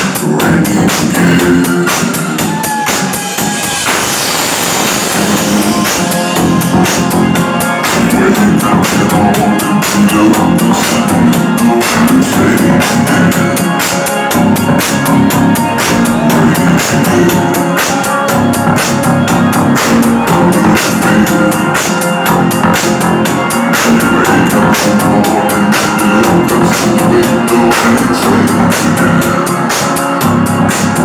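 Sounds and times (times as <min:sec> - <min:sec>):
electronic dance music: 0:00.0 - 0:31.0.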